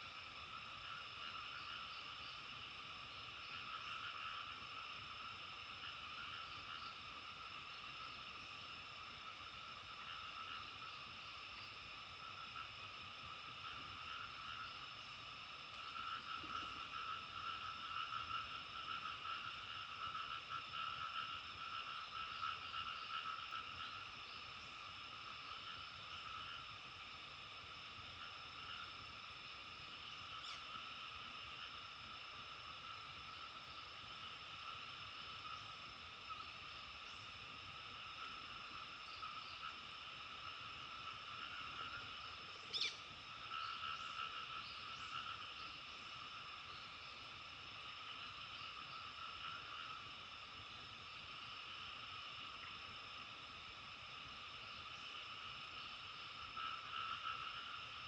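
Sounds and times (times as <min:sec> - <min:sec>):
frogs chorus: 0:00.0 - 0:58.0.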